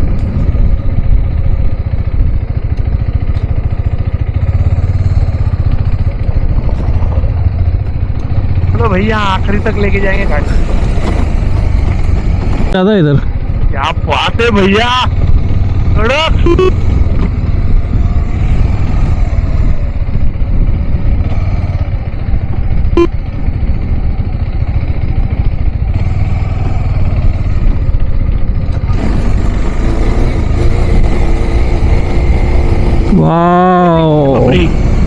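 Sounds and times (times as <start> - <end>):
wind noise: 0.0 - 5.2, 10.2 - 33.8
motorcycle engine rumble: 0.0 - 35.0.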